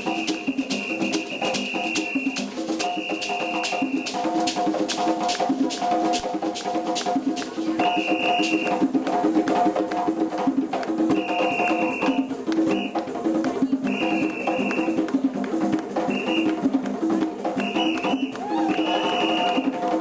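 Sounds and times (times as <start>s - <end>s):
drumming: 0.0s - 20.0s.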